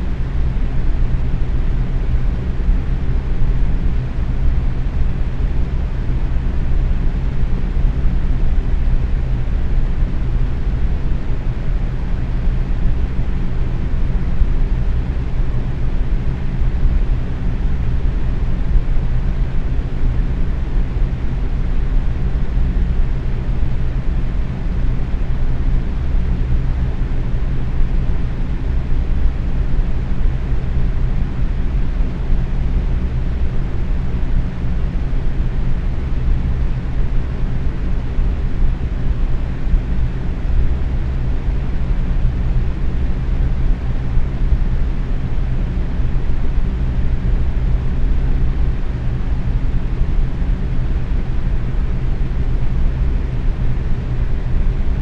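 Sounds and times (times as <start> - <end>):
box fan running: 0.0 - 55.0.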